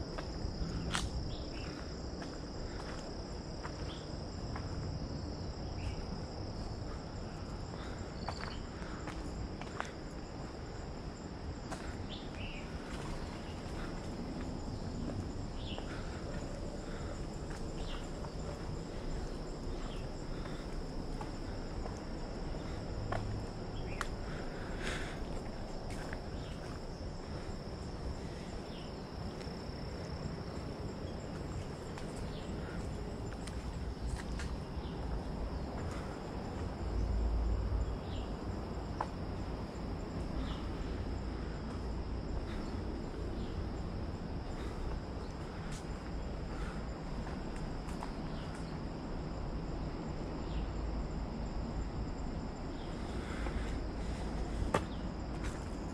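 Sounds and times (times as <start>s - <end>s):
footsteps on path: 0.0s - 4.9s, 5.8s - 10.4s, 11.6s - 37.2s, 38.9s - 48.8s, 53.0s - 55.9s
insects droning: 0.0s - 55.9s.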